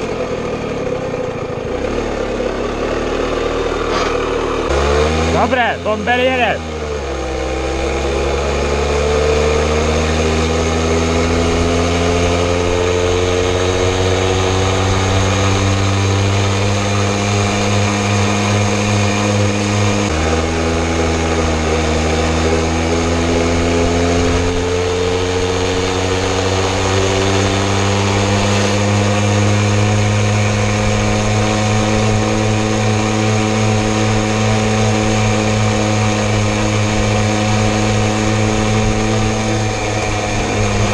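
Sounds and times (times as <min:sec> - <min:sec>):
moped engine running: 0:00.0 - 0:40.9.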